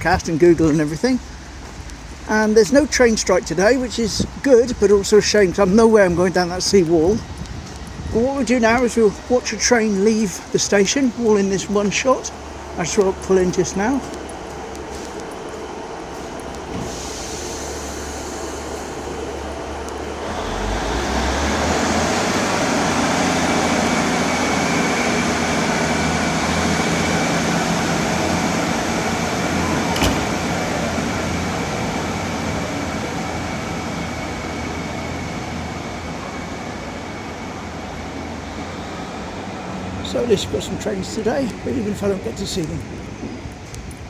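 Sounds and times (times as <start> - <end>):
diesel train engines: 0.0 - 44.0.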